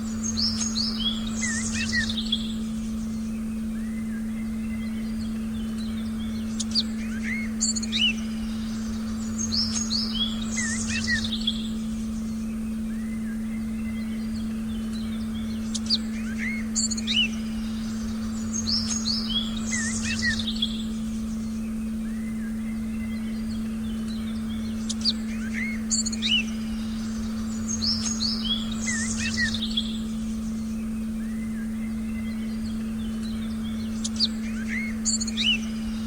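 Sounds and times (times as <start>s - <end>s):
birds chirping and whistling: 0.0s - 36.0s
low sustained tone: 0.0s - 36.0s.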